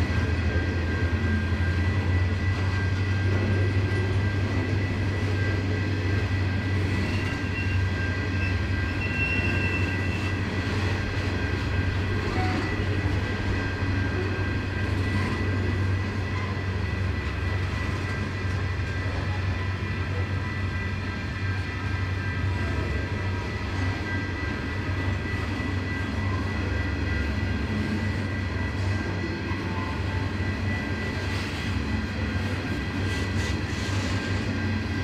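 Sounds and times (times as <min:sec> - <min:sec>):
diesel train engine drone: 0:00.0 - 0:35.0
high-pitched whines: 0:00.0 - 0:35.0.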